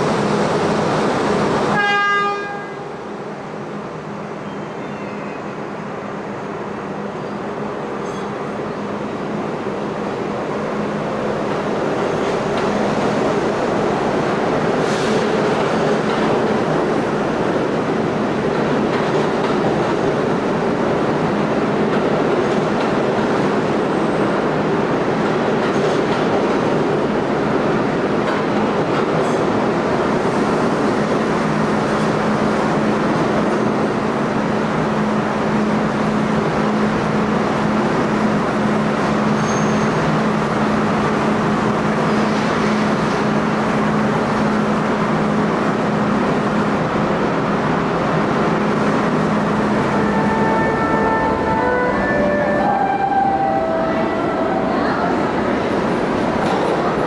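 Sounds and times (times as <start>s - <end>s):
subway train running: 0.0s - 57.0s.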